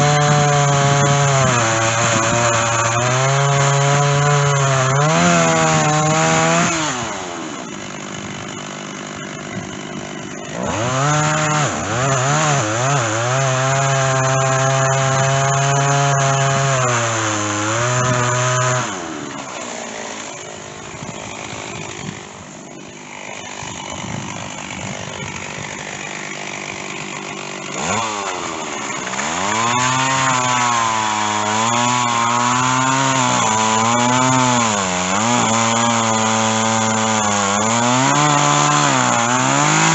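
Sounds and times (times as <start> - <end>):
chainsaw revving while cutting wood: 0.0 - 39.9.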